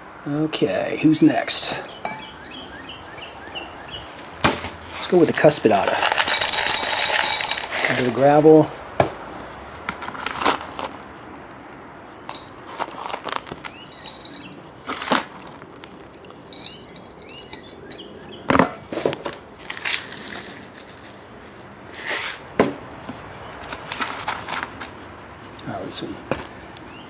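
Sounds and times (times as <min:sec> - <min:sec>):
gravel clicking and scraping in pot: 0:00.8 - 0:27.0.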